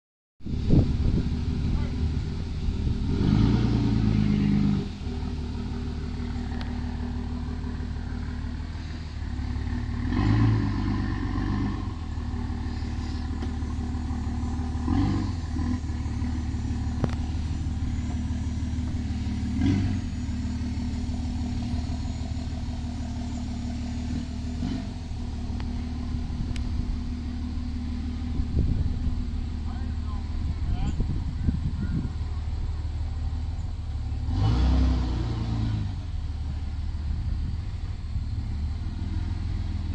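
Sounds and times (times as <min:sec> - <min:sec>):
vehicle engine running at low revs: 0:00.4 - 0:39.9.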